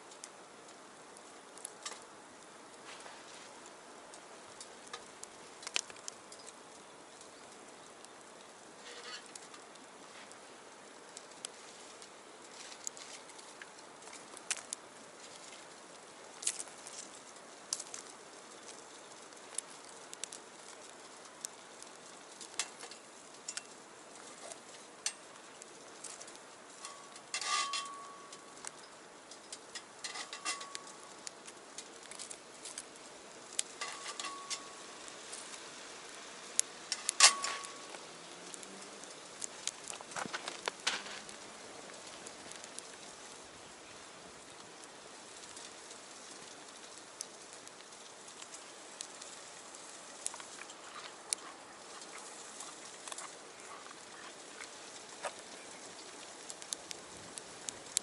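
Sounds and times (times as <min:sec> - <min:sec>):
low hiss: 0:00.0 - 0:58.0
wood fire crackling and popping: 0:00.0 - 0:58.0.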